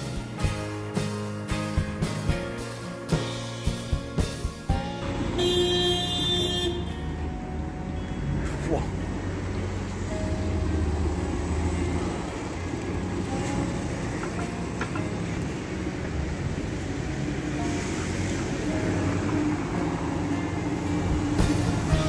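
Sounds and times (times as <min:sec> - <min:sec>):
bus driving off: 0:00.0 - 0:22.0
cars going by: 0:00.0 - 0:22.0
rumble of passing vehicles: 0:00.0 - 0:22.0.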